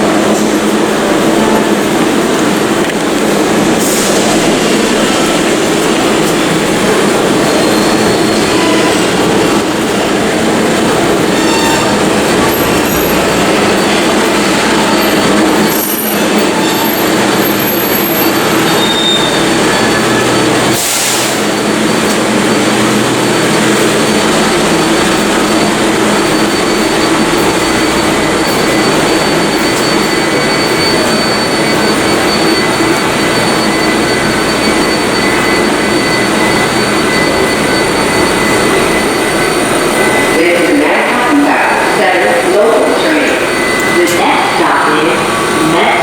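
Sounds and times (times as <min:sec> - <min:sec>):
train wheels rumbling on rail: 0:00.0 - 0:46.0
high squealing tones: 0:04.4 - 0:46.0.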